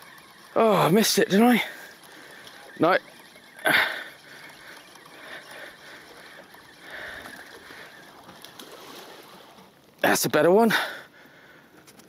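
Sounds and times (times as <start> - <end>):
small waves lapping shoreline: 0.0 - 11.6.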